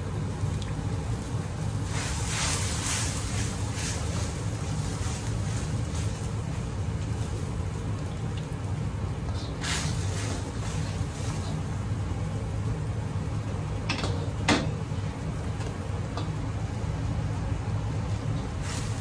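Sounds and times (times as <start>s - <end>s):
gas burner rushing: 0.0s - 19.0s
liquid boiling: 0.0s - 19.0s.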